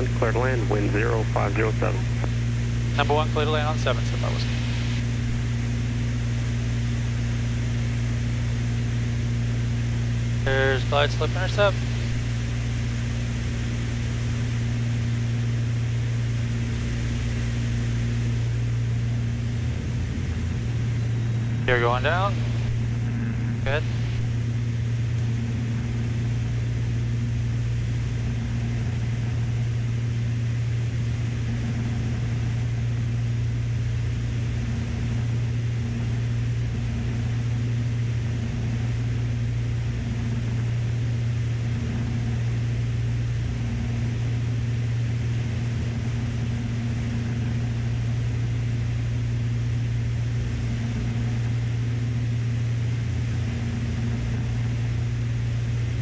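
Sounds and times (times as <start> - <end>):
twin propeller aircraft engine drone: 0.0 - 56.0.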